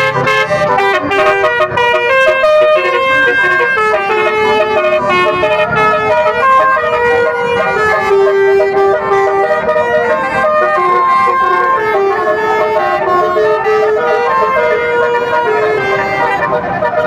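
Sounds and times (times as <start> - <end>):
multi-tone musical air horn: 0.0 - 17.0.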